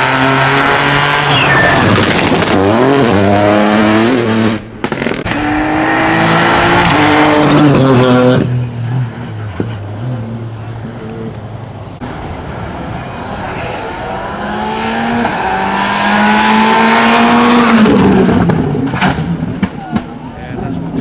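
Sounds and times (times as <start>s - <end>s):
rally car engine accelerating: 0.0s - 19.8s.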